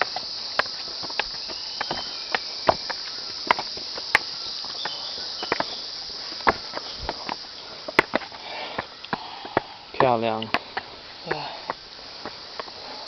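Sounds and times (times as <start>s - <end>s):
footsteps on stone steps: 0.0s - 13.0s
insects droning: 0.0s - 13.0s.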